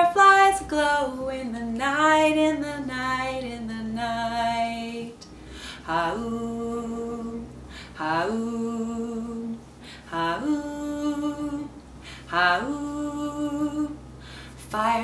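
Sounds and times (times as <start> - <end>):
woman singing a cappella: 0.0 - 15.0.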